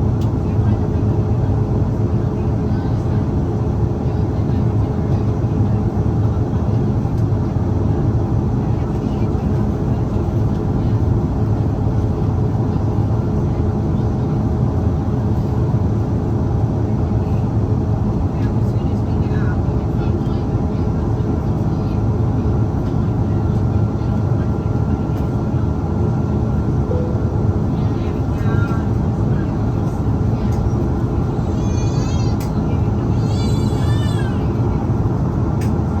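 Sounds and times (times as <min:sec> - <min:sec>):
jet engine rumble in cabin: 0:00.0 - 0:36.0.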